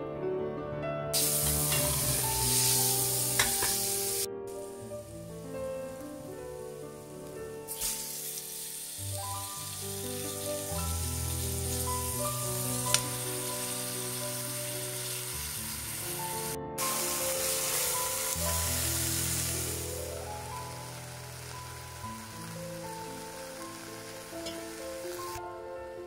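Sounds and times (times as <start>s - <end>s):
meat sizzling in hot oil: 1.2s - 25.4s.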